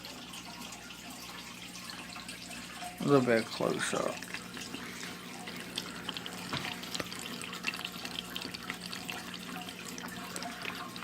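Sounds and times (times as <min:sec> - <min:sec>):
filter water splashing into tank: 0:00.0 - 0:11.0
water dripping: 0:00.0 - 0:11.0.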